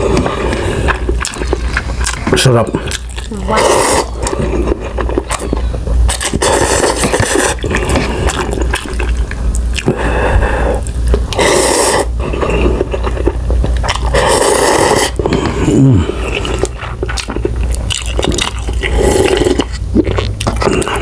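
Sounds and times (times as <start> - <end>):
slurping noodles: 2.8 - 5.5, 6.1 - 9.2, 9.8 - 21.0.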